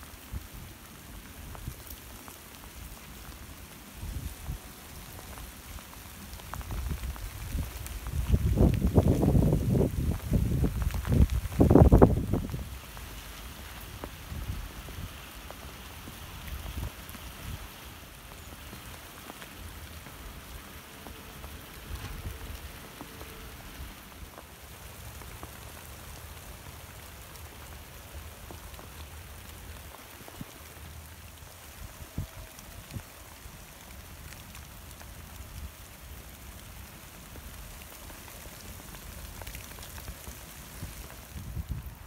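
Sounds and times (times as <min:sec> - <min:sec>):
rain on a metal fence sheet: 0:00.0 - 0:42.0.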